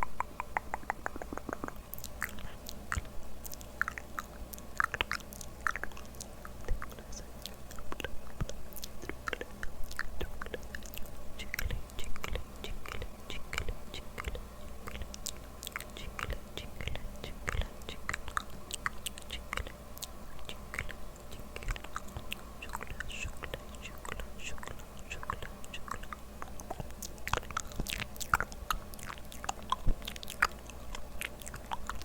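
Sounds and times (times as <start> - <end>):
wet mouth clicks and smacks: 0.0 - 32.0.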